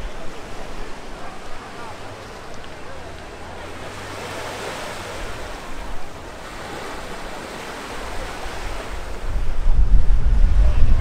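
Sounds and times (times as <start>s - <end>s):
ocean waves washing on beach: 0.0s - 11.0s.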